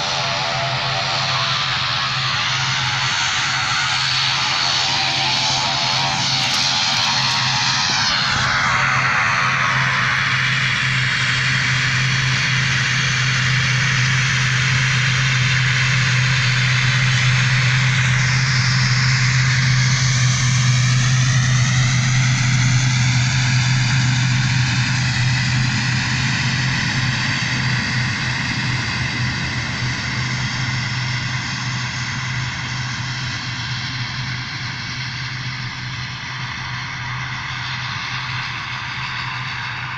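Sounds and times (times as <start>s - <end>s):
turboprop aircraft droning: 0.0s - 39.9s.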